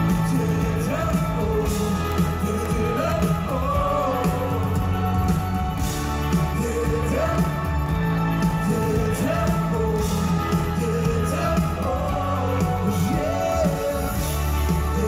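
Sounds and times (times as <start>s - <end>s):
man singing lead: 0.0s - 15.0s
pop-rock band playing: 0.0s - 15.0s.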